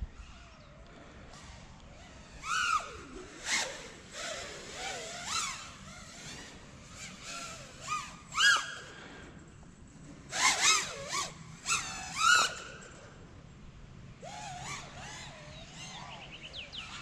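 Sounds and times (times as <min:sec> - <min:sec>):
drone motors whining: 0:00.0 - 0:13.2, 0:14.1 - 0:17.0.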